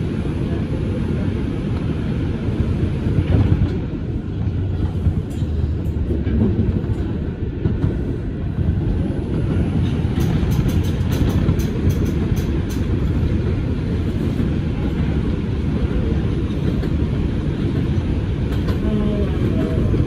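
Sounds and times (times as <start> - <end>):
subway wheels rumbling on track: 0.0 - 20.0.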